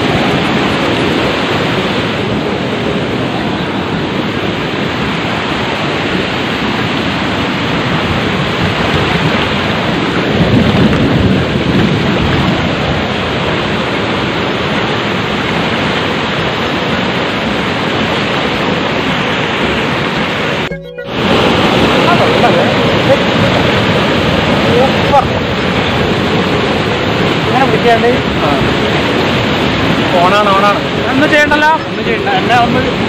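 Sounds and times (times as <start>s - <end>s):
waterfall rushing over rock: 0.0s - 33.0s.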